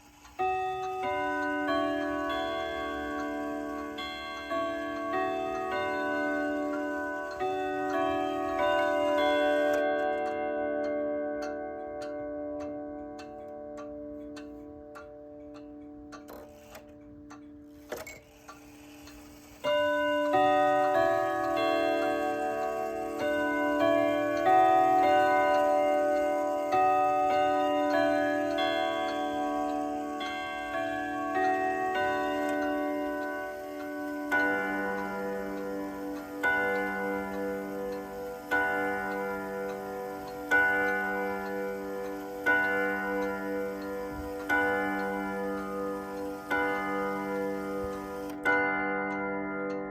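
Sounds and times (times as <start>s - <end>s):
chime rods ringing a melody: 0.0s - 16.8s, 18.0s - 49.9s
clock movement clunk: 0.0s - 49.8s
wall clock ticking: 0.0s - 49.9s.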